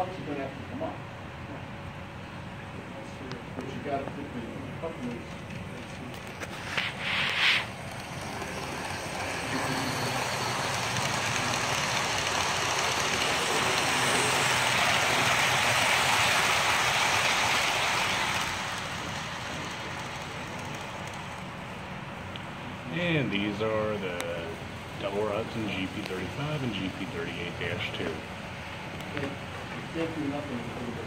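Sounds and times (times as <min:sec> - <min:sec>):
model train rolling on rails: 0:04.9 - 0:31.0.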